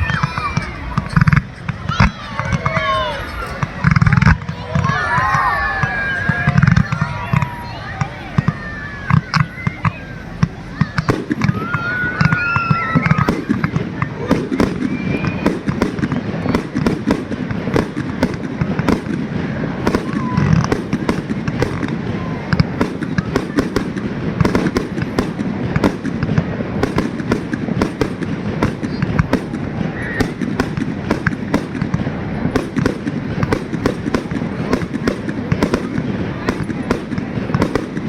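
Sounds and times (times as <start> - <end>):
fireworks cracks and bangs: 0.0 - 38.0.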